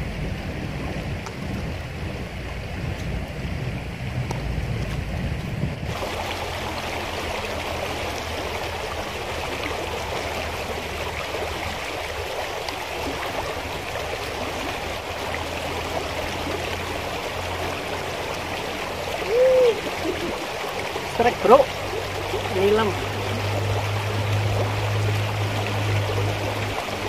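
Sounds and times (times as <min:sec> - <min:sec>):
river rushing over rapids: 0:00.0 - 0:27.0.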